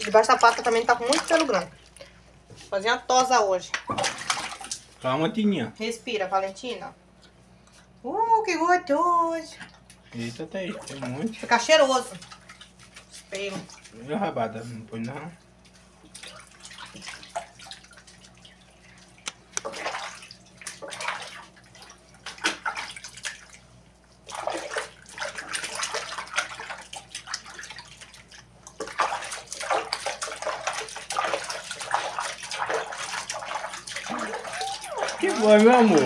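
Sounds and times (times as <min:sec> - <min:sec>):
water splashing in a tub: 0:00.0 - 0:02.3, 0:03.1 - 0:05.2, 0:09.6 - 0:36.0.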